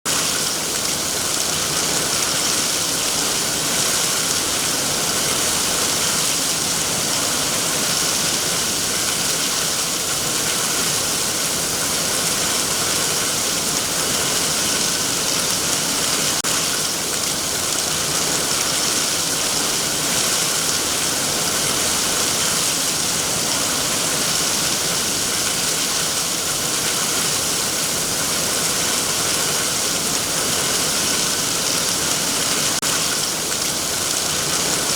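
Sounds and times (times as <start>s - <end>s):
heavy rain on trees: 0.1s - 34.9s.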